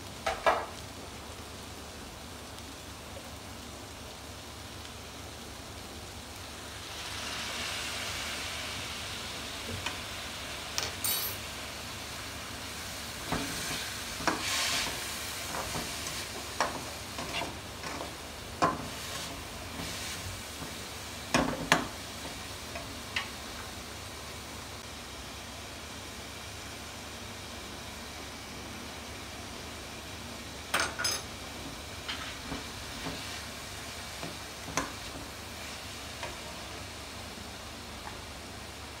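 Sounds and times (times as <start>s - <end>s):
vegetables sizzling in a frying pan: 0.0s - 39.0s.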